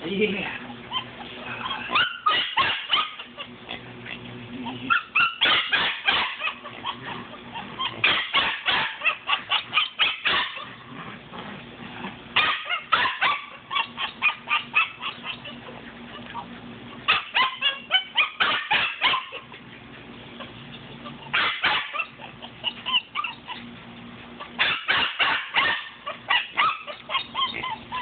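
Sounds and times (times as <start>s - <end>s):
puppy yipping and barking: 0.9s - 3.5s, 4.7s - 10.8s, 12.4s - 19.6s, 20.4s - 23.8s, 24.4s - 28.0s.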